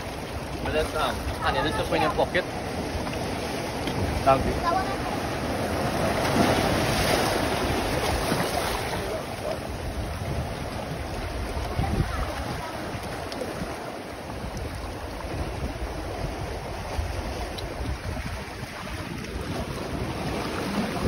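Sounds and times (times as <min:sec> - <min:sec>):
surf splashing among boulders: 0:00.0 - 0:21.0
wind buffeting microphone: 0:00.0 - 0:21.0.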